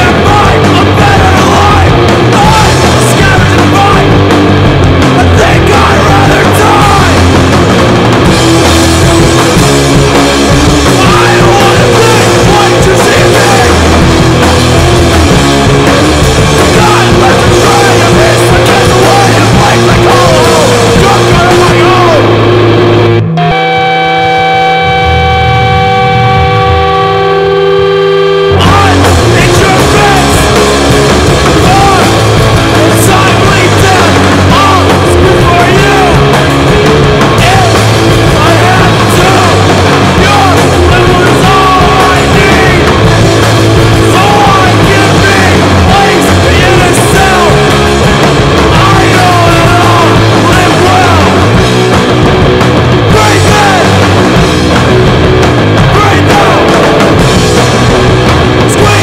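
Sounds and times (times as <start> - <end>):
punk rock band playing: 0.0 - 59.0
yelled vocals: 0.0 - 59.0.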